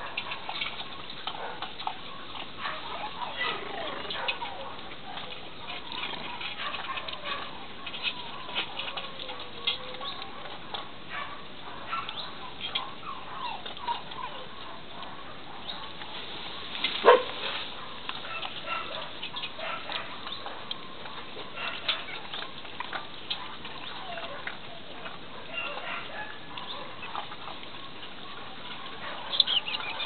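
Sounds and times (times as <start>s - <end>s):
puppy yelp: 0.0s - 15.9s, 17.0s - 17.3s, 18.2s - 22.4s, 23.4s - 27.3s
puppies whimpering and squeaking: 0.0s - 16.0s, 17.8s - 30.0s.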